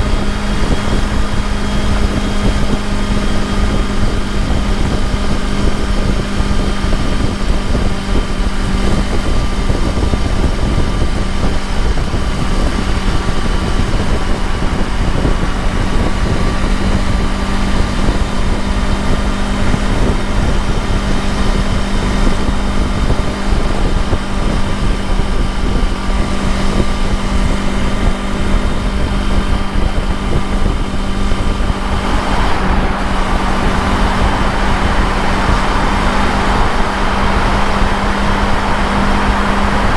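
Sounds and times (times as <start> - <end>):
motorcycle engine cruising: 0.0 - 39.9
rushing wind noise: 0.0 - 39.9.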